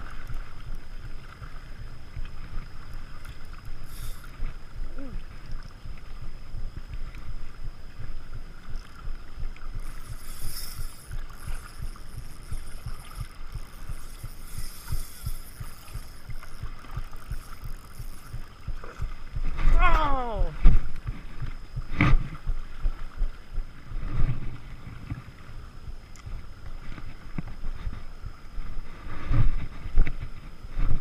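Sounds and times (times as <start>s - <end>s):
waves lapping on rocks: 0.0s - 31.0s
wind rumbling on microphone: 0.0s - 31.0s.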